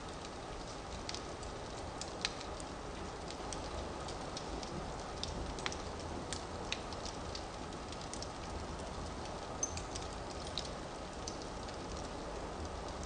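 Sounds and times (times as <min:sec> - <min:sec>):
burning logs crackling and popping: 0:00.0 - 0:13.0
fire hissing and rumbling: 0:00.0 - 0:13.0.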